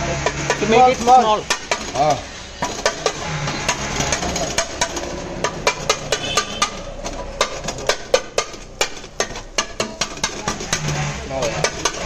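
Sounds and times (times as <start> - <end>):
steel scoop clanking on wok: 0.2 - 12.0.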